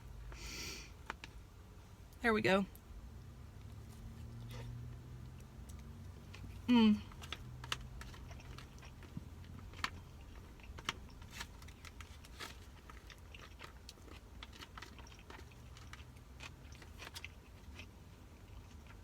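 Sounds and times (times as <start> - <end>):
person chewing crunchy food: 3.6 - 19.0.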